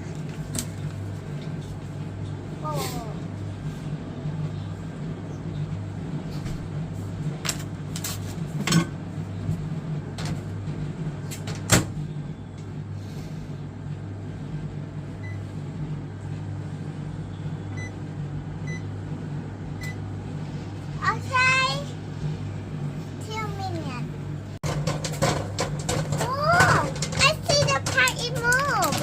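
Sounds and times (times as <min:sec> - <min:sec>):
microwave oven humming: 0:00.0 - 0:29.0.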